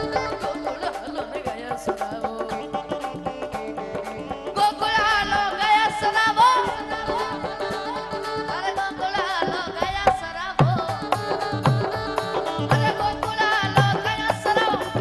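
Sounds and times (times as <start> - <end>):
boy singing through microphone: 0.0 - 15.0
tabla: 0.0 - 15.0.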